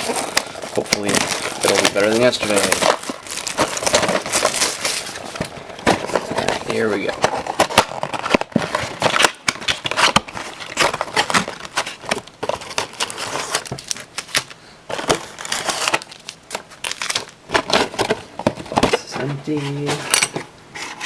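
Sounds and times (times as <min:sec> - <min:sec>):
cardboard and wrapper crinkling: 0:00.0 - 0:20.2.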